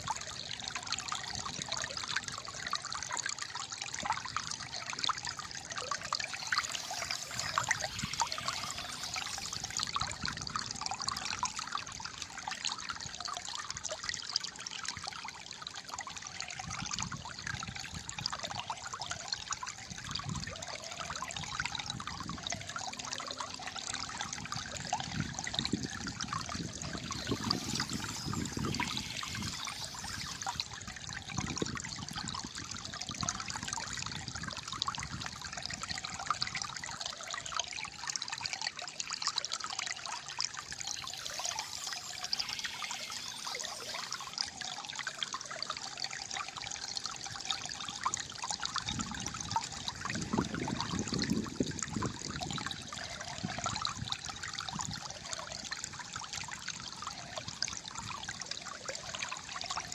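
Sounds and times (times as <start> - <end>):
water trickling and gurgling: 0.0 - 59.9.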